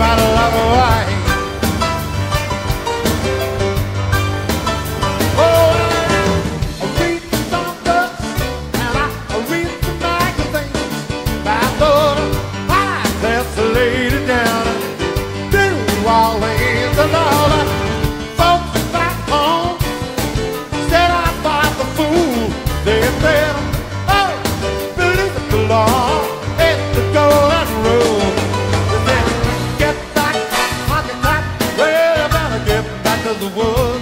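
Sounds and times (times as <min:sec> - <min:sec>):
live rock band playing: 0:00.0 - 0:34.0.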